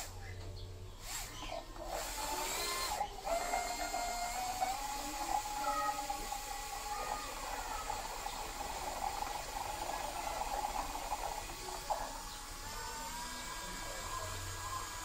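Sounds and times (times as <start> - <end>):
cordless drill grinding through metal: 1.0 - 15.0.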